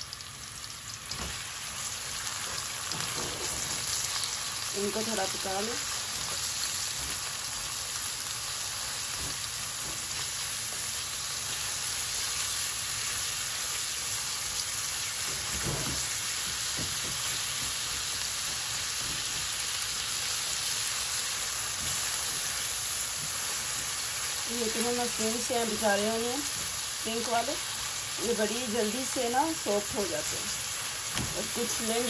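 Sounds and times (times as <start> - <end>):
onions sizzling in hot oil: 0.0 - 32.0.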